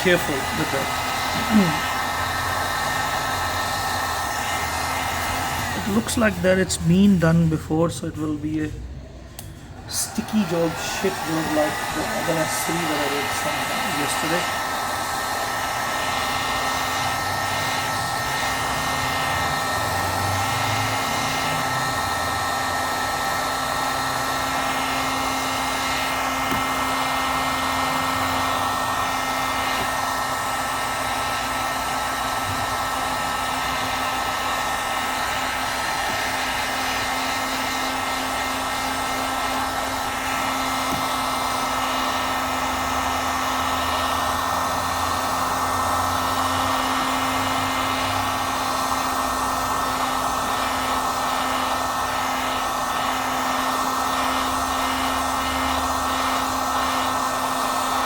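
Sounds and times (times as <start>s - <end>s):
heat gun whirring hum: 0.0s - 58.0s.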